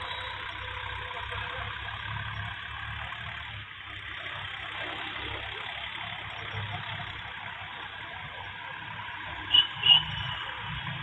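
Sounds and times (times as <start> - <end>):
distant tractor engine rumble: 0.0 - 11.0.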